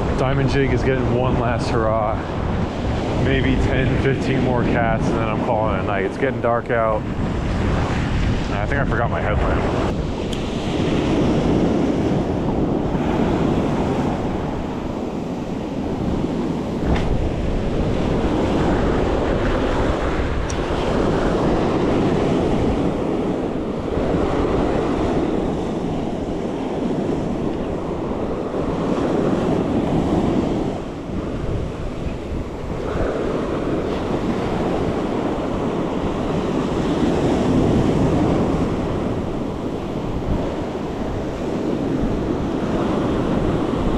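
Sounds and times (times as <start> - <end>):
ocean surf breaking: 0.0 - 43.9
wind buffeting microphone: 0.0 - 43.9.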